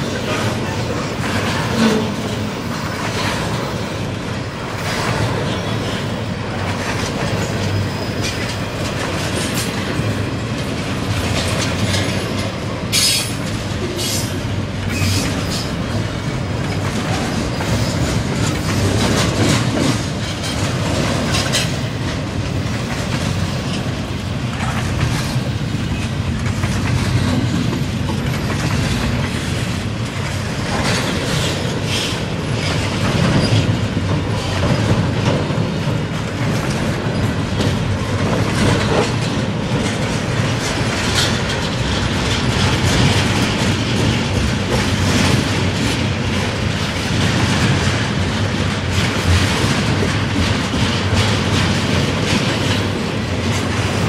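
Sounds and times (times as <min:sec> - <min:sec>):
train wheels rumbling on rails: 0:00.0 - 0:54.0
wheels clacking over rail joints: 0:00.0 - 0:54.0.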